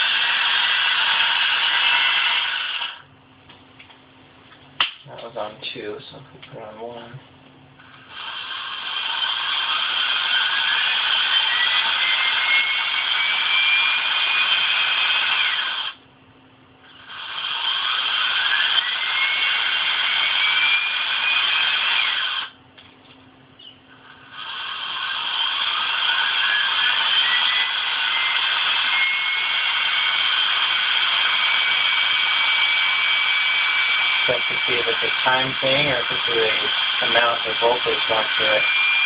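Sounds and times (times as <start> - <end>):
cordless drill motor whining: 0.0 - 3.0, 7.9 - 16.0, 17.0 - 22.5, 24.1 - 39.0.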